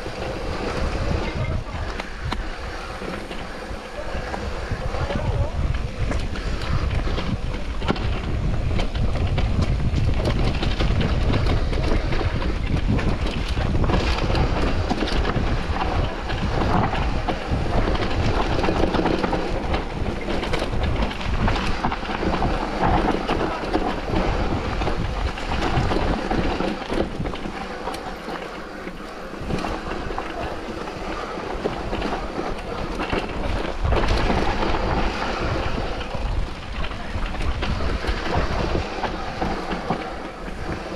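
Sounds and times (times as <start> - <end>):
bike tyres over dirt and stones: 0.0 - 40.9
wind buffeting microphone: 0.0 - 40.9.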